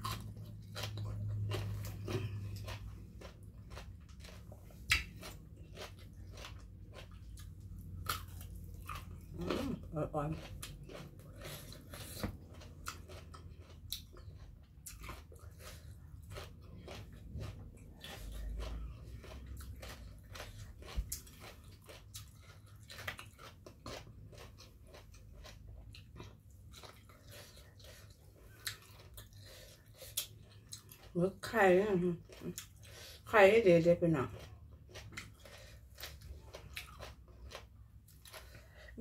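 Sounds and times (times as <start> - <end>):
person chewing crunchy food: 0.0 - 33.3, 34.0 - 39.0.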